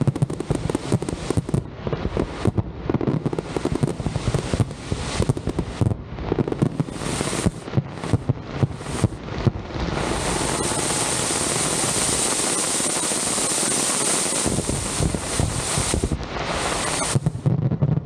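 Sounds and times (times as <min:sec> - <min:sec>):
fireworks hissing crackle: 0:00.0 - 0:18.0
low booming firework bursts: 0:00.0 - 0:18.0.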